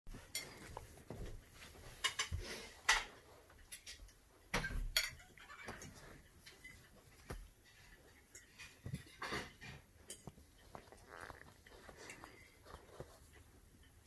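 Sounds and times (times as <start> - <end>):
fabric rustling: 0.1 - 3.6, 5.5 - 14.0.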